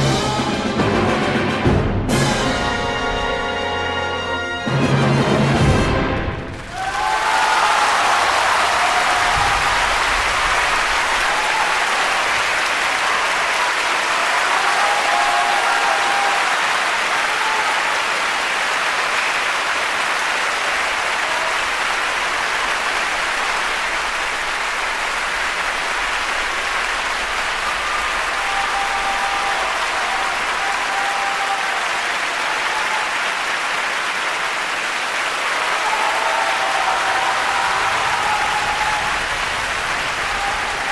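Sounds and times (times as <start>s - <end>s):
large audience applauding: 4.7s - 40.9s.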